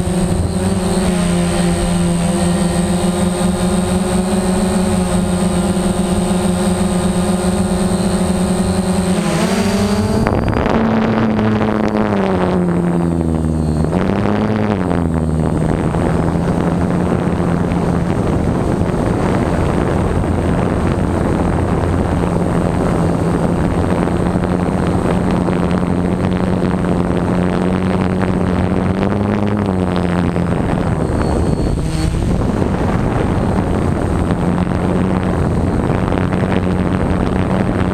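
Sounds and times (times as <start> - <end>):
drone propellers humming: 0.0 - 37.9.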